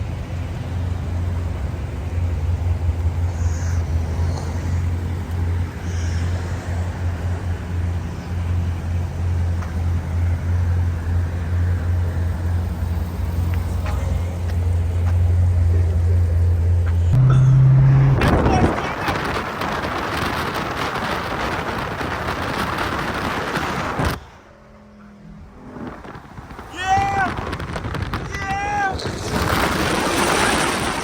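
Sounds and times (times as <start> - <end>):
car engine droning: 0.0 - 31.0
road noise: 0.0 - 31.0.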